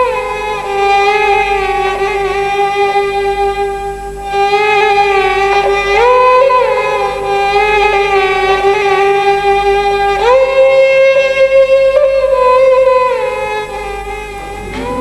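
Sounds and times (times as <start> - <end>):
slow melody: 0.0 - 15.0
steady held drone: 0.0 - 15.0.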